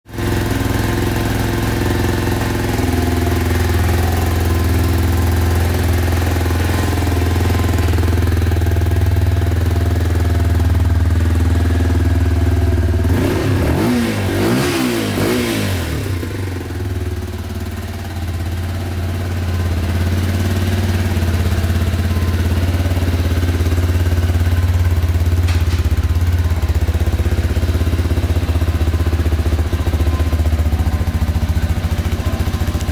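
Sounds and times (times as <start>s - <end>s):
motorcycle engine idling: 0.1s - 32.9s.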